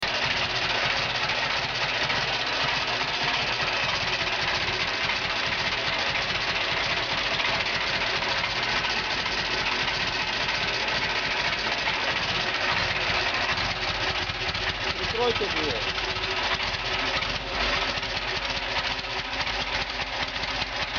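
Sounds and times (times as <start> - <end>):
engine running steadily: 0.0 - 20.9.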